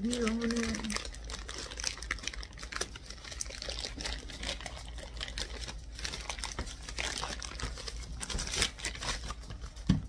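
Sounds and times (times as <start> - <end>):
plastic bag rustling and tearing: 0.0 - 9.9.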